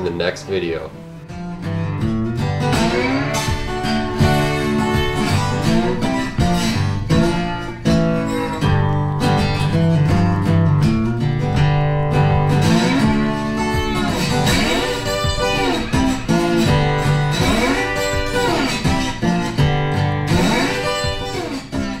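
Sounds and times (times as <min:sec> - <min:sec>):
guitar instrumental music: 0:00.0 - 0:22.0
steady bass line: 0:00.0 - 0:22.0.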